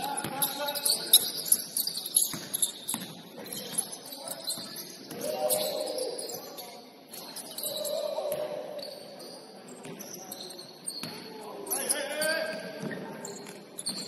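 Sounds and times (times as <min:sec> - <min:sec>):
shoes squeaking on gym court: 0:00.0 - 0:14.0
voices murmuring: 0:00.0 - 0:14.0.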